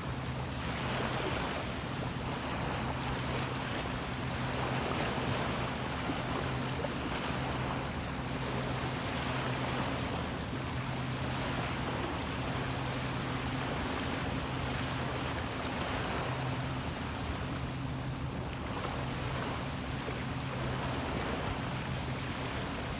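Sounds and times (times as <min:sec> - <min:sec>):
low motor hum: 0:00.0 - 0:22.9
water lapping at shore: 0:00.0 - 0:22.9.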